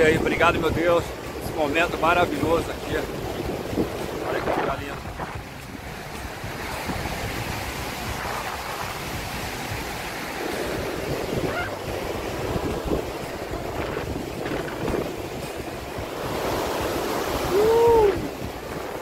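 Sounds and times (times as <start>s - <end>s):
river rushing over boulders: 0.0s - 19.0s
wind buffeting microphone: 0.0s - 19.0s.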